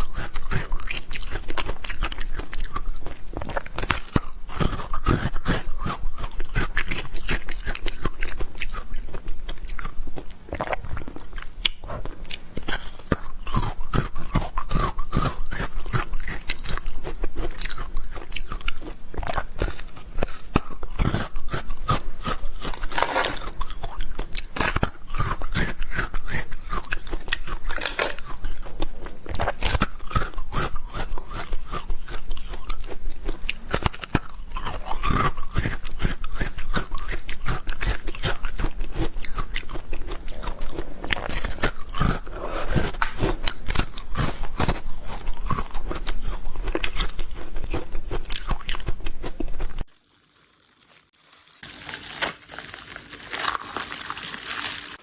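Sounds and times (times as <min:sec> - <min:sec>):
watermelon chewing crunches: 0:00.0 - 0:55.0.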